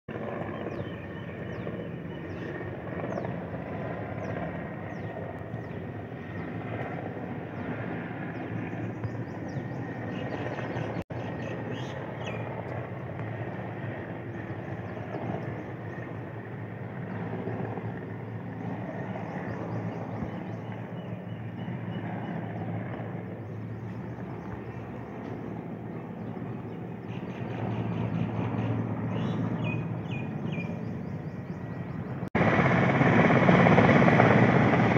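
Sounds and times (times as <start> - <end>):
distant helicopter rotor rumble: 0.1 - 34.9.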